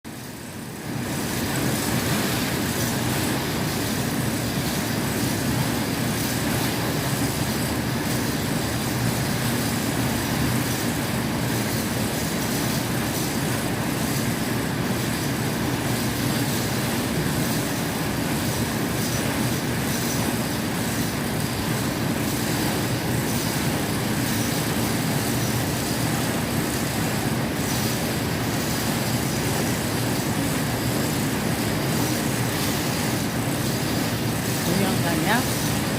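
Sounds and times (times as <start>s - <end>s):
machine rattle and hum: 0.1s - 35.9s.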